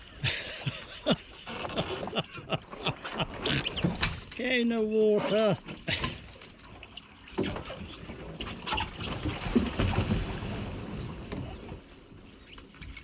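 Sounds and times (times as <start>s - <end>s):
water splashing around hull: 0.0s - 13.0s.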